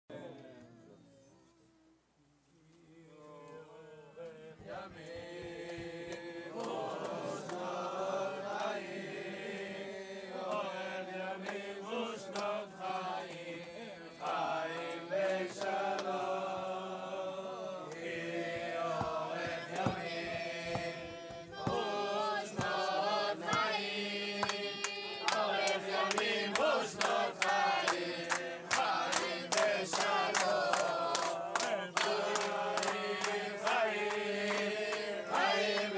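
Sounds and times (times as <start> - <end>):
men singing together: 2.8 - 35.9
rhythmic hand clapping: 4.2 - 35.9.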